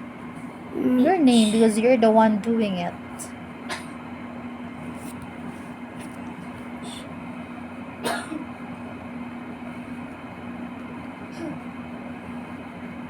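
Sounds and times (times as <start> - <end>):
low hum of room noise: 0.0 - 13.0.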